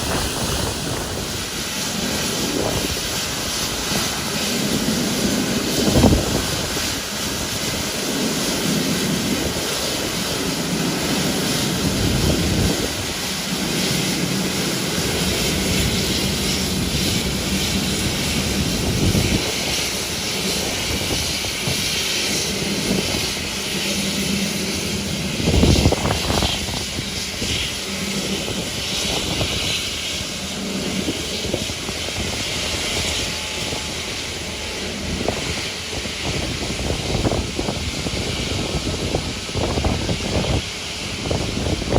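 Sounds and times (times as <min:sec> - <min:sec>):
airliner engines running: 0:00.0 - 0:41.9
wind gusts on microphone: 0:00.0 - 0:41.9.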